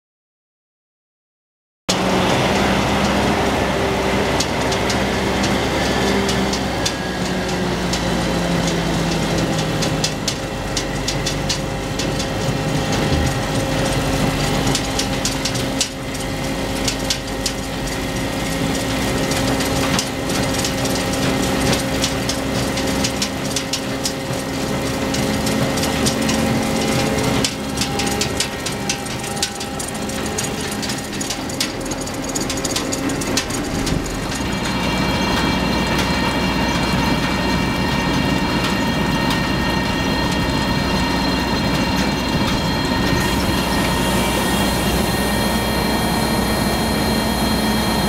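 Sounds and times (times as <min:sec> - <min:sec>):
harvester clattering: 0:01.9 - 0:48.0
tractor engine running: 0:01.9 - 0:48.0.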